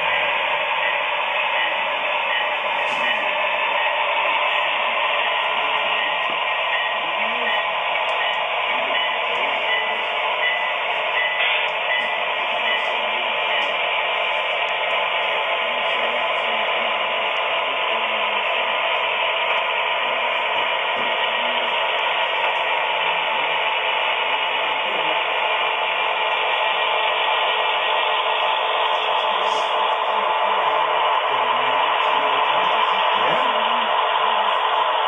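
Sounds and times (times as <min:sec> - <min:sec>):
model train hissing drone: 0:00.0 - 0:35.0.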